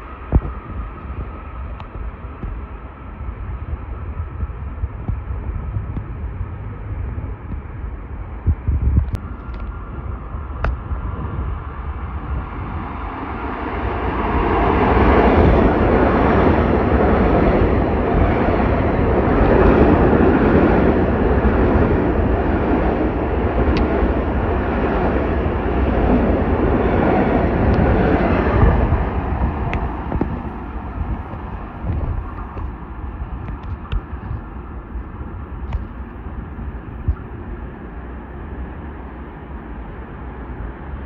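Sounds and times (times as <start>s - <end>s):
train passing at speed: 0.0s - 41.0s.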